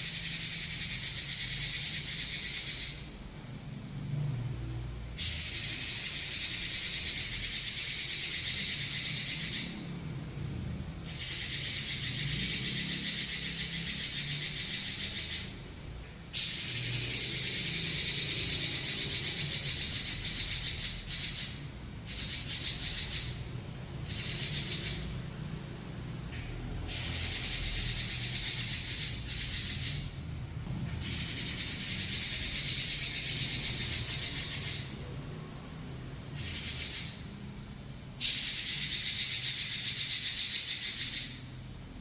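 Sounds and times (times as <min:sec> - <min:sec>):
bird singing rapid rolling trills: 0:00.0 - 0:42.0.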